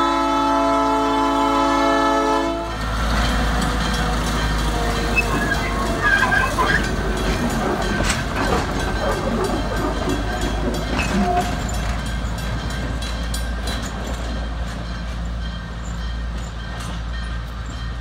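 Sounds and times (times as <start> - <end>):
diesel train rumbling past: 0.0 - 18.0
steel wheels clicking on rails: 2.8 - 18.0.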